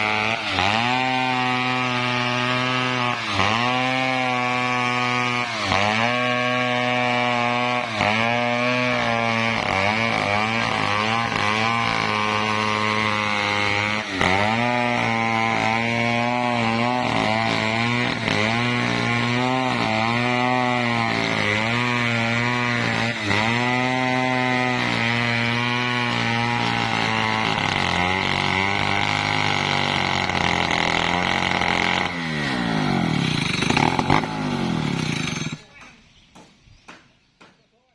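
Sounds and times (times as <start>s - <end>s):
chainsaw cutting log: 0.0s - 37.6s.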